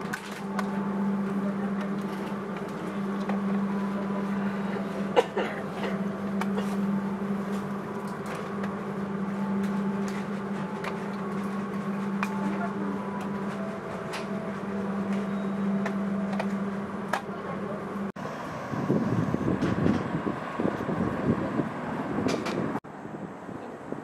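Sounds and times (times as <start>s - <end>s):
train carriage hum: 0.0s - 24.0s.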